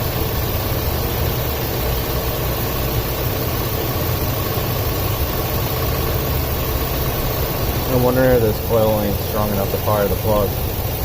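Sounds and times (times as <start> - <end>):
engine idling with misfire: 0.0 - 11.0.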